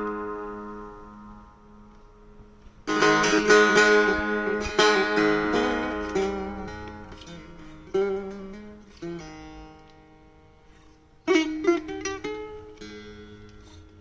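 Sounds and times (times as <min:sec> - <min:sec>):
plucked lute notes: 0:00.0 - 0:14.0.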